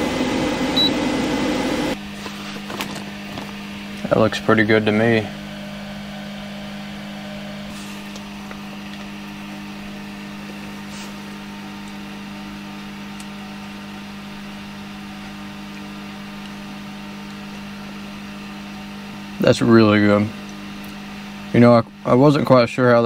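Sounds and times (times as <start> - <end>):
cooling fan humming: 0.0 - 23.0.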